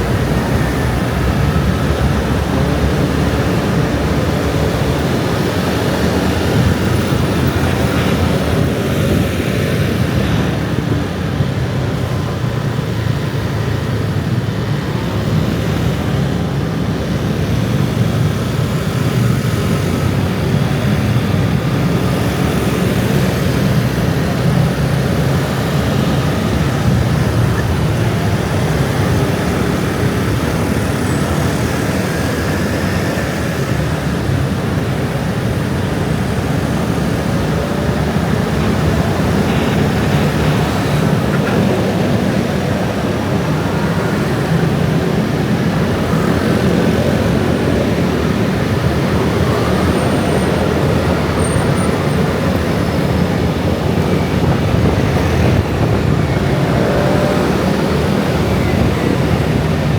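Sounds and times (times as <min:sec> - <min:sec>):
scooter traffic drone: 0:00.0 - 0:59.9.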